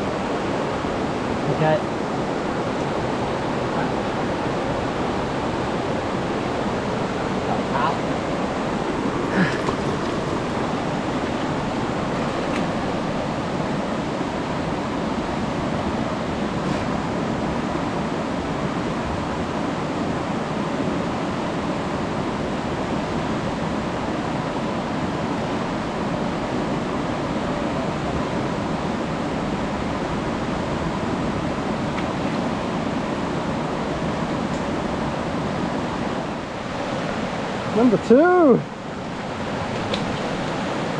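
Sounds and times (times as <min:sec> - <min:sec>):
fast-flowing river rushing: 0:00.0 - 0:40.9.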